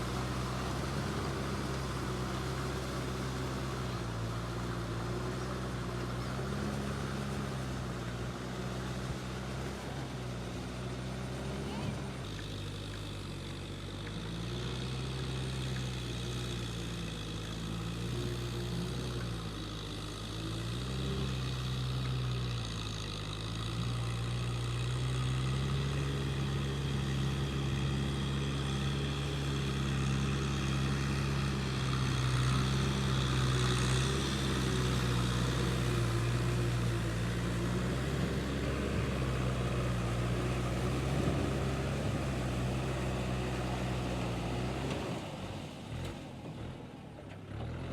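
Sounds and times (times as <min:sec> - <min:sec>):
engine running: 0:00.0 - 0:47.8.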